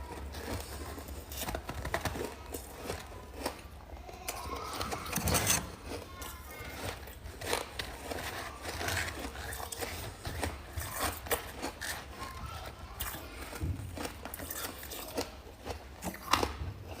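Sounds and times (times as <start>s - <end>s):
frost chunks crunching in chewing: 0.0s - 17.0s.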